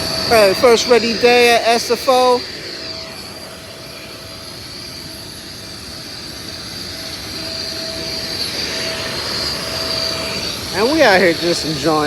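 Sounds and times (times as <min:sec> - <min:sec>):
aircraft turbine whine: 0:00.0 - 0:12.0.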